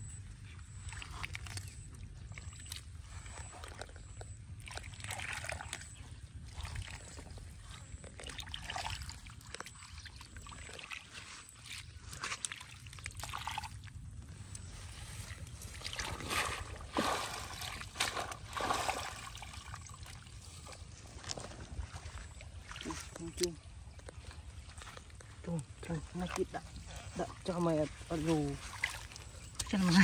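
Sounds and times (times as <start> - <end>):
hands sloshing in muddy puddle: 0.2 - 30.0.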